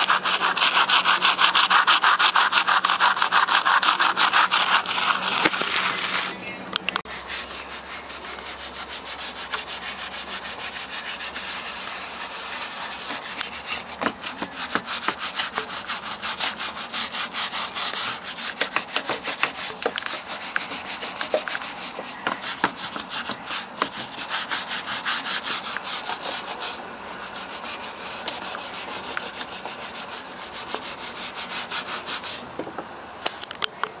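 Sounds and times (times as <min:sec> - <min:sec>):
hand scrubbing metal parts: 0:00.0 - 0:06.4, 0:07.0 - 0:32.5.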